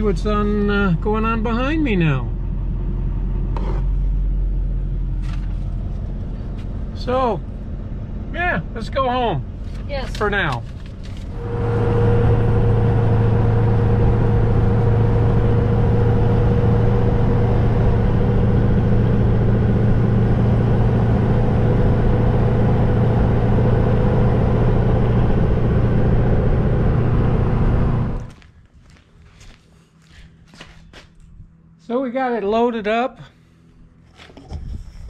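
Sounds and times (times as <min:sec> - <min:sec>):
diesel engine droning: 0:00.0 - 0:28.6
road noise: 0:00.0 - 0:35.0.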